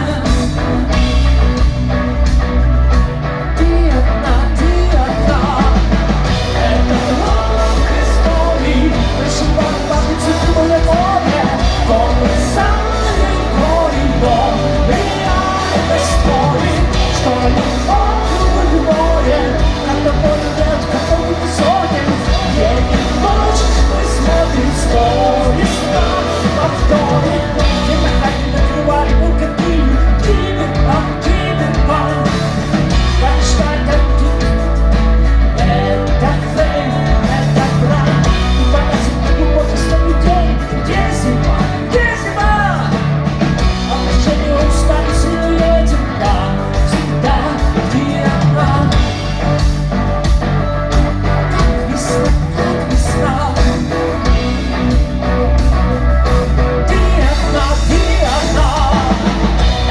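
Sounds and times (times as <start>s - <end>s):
person singing: 0.0s - 1.9s, 3.0s - 59.9s
heavy bass line: 0.0s - 59.9s
rock band playing: 0.0s - 59.9s.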